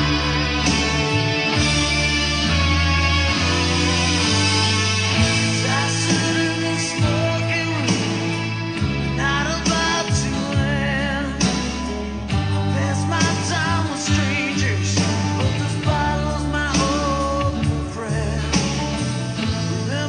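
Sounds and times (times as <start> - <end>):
person singing with vibrato: 0.0 - 11.9, 12.6 - 20.0
bass line: 0.0 - 20.0
twelve-string guitar: 0.0 - 20.0.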